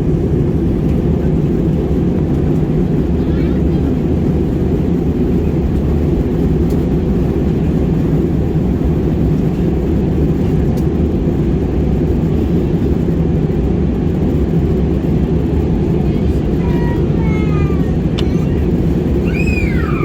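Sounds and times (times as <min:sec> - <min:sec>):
airliner engines droning: 0:00.0 - 0:20.0.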